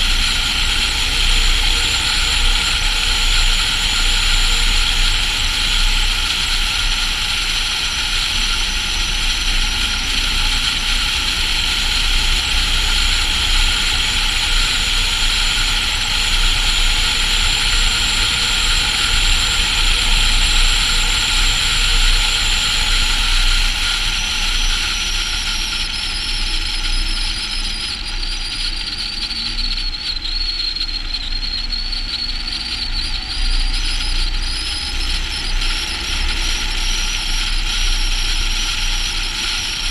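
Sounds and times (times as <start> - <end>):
high whine: 0.0 - 39.9.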